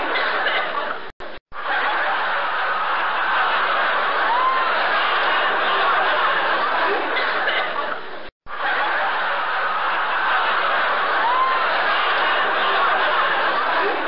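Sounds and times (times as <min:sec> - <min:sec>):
canned laughter: 0:00.0 - 0:14.0
crowd chattering: 0:00.0 - 0:14.0.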